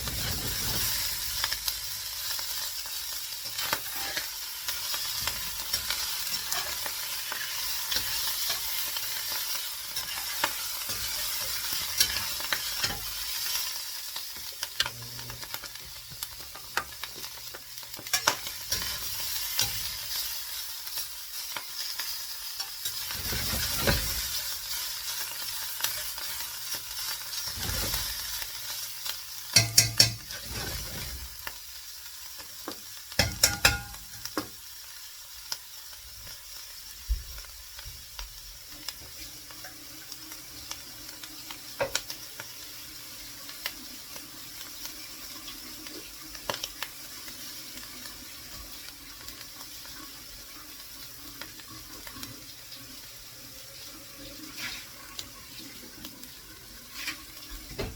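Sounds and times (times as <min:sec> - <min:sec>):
omelette sizzling in a pan: 0:00.0 - 0:57.9.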